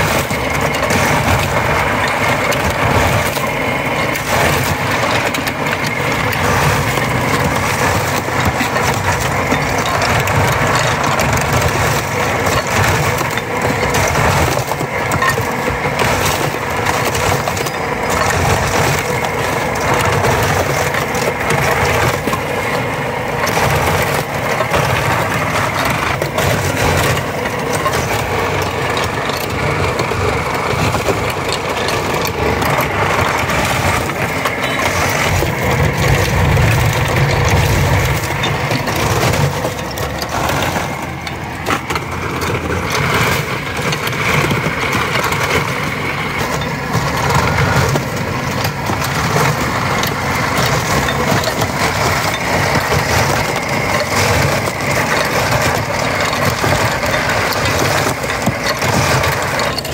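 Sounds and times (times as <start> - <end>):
motorized ice crusher grinding ice: 0.0 - 59.9.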